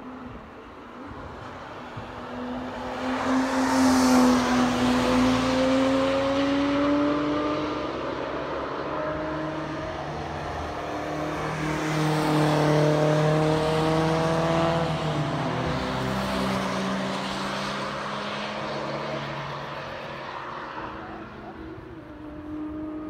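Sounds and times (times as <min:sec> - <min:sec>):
car engine approaching: 0:00.0 - 0:23.0.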